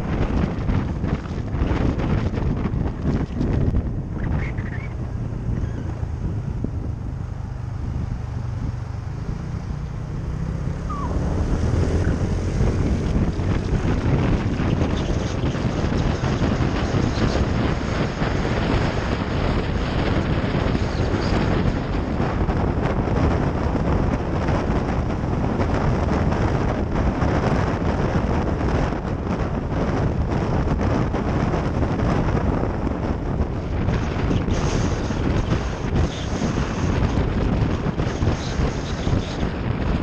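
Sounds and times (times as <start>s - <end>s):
motorbike running: 0.0s - 40.0s
road noise: 0.0s - 40.0s
wind rushing over microphone: 0.0s - 40.0s.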